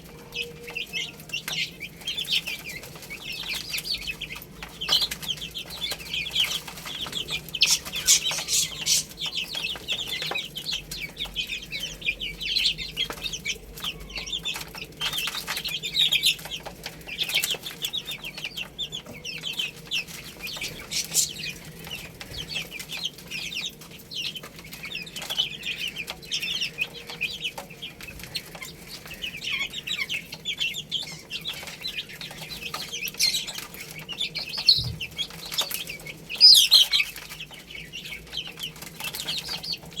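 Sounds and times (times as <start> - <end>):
baby chicks peeping: 0.0 - 40.0.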